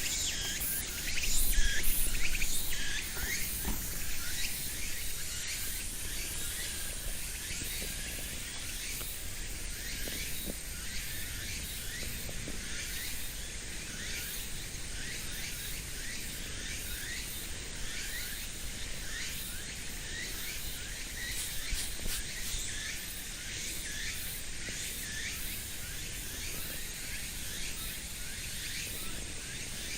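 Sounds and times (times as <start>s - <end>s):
high buzz of insects: 0.0s - 29.9s.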